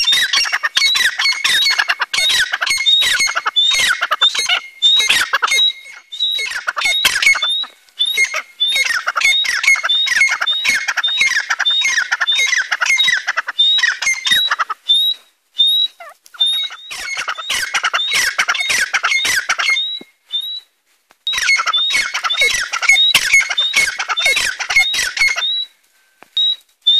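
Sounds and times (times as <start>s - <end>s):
francolins calling: 0.0s - 20.7s, 21.3s - 26.9s.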